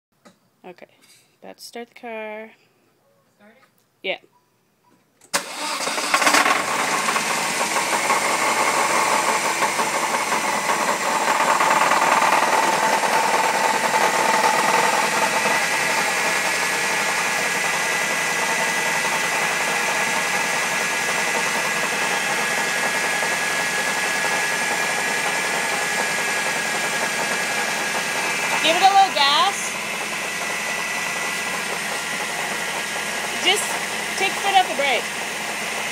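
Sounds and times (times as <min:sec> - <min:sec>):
car engine idling: 0:05.4 - 0:35.9
rumbling engine knock: 0:06.6 - 0:35.9.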